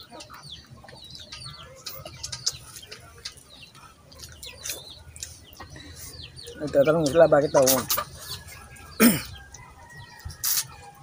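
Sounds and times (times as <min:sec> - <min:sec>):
people eating with hands: 0:00.0 - 0:11.0
small birds chirping: 0:00.0 - 0:11.0.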